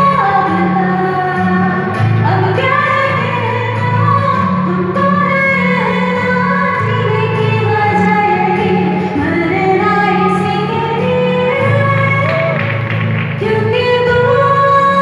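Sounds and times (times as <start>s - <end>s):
woman singing long notes: 0.0s - 12.7s.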